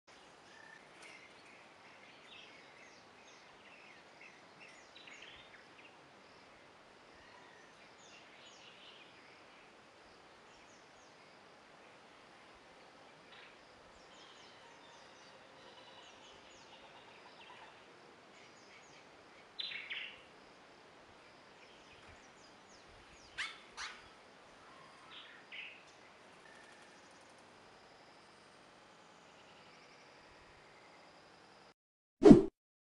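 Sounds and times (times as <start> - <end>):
faint background hiss: 0.1 - 31.7.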